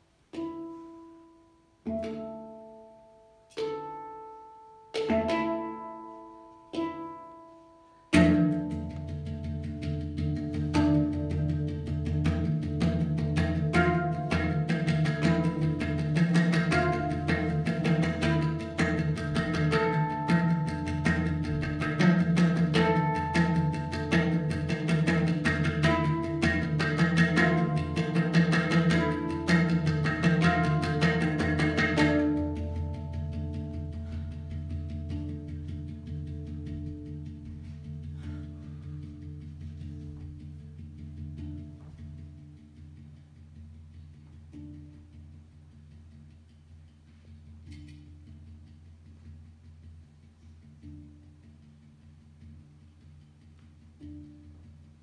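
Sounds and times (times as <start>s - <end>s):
handpan notes ringing: 0.3s - 55.0s.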